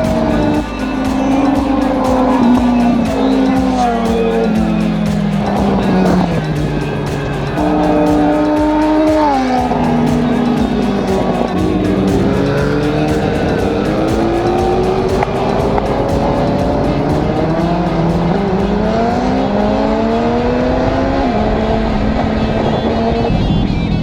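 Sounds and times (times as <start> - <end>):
motorcycle engine accelerating: 0.0 - 24.0
music: 0.0 - 24.0.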